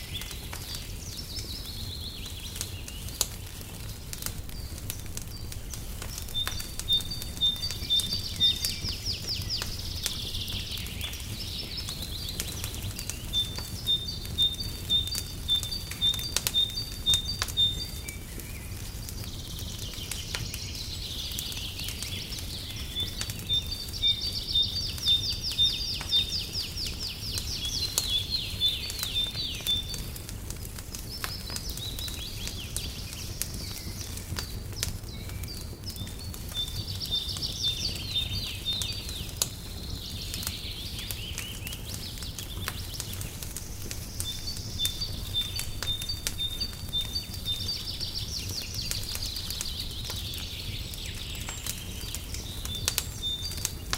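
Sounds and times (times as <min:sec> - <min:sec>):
songbirds singing: 0:00.0 - 0:53.9
wood fire crackling: 0:00.0 - 0:53.9.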